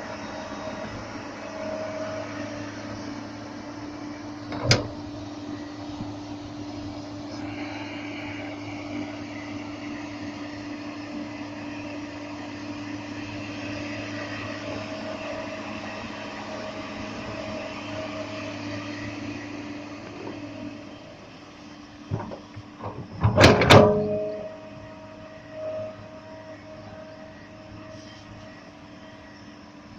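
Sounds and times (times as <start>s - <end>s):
excavator engine and hydraulics: 0.0s - 29.9s.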